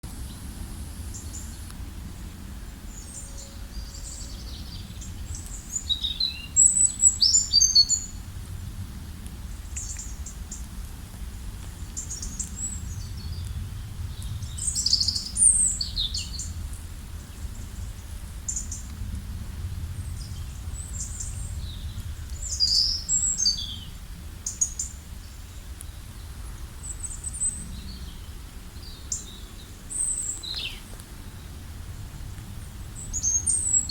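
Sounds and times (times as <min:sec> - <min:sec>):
low background rumble: 0:00.0 - 0:33.9
wild birds chirping and singing: 0:01.1 - 0:08.3, 0:11.8 - 0:19.0, 0:19.7 - 0:33.9.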